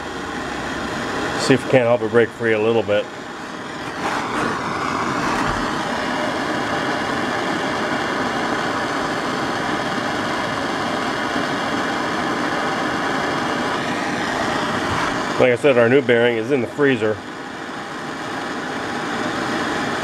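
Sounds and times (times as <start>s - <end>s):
propane torch hissing: 0.0s - 20.0s.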